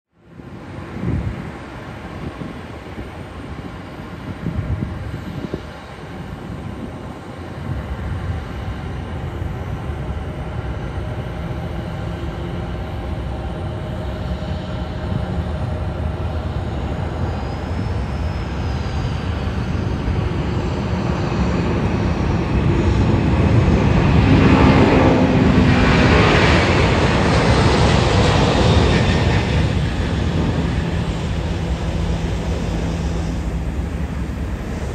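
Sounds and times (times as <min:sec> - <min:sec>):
jet engines roaring at takeoff: 0:00.1 - 0:34.9.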